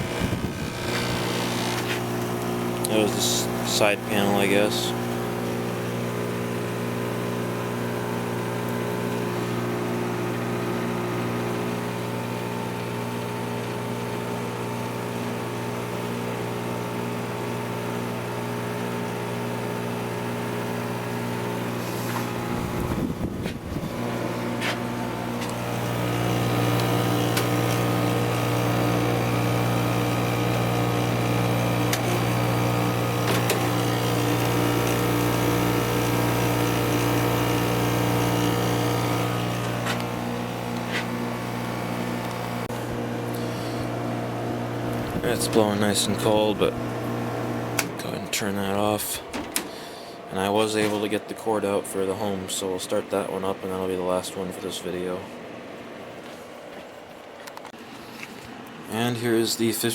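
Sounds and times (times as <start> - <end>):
air conditioner humming: 0.0 - 17.8, 18.6 - 59.9.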